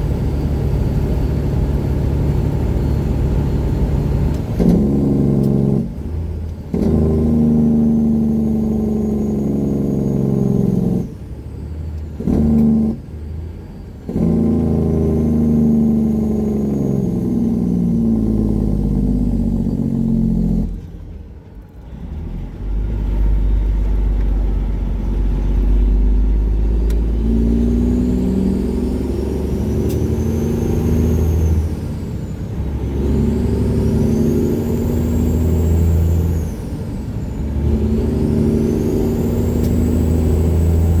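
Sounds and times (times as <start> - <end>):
loud diesel truck engine: 0.0 - 41.0.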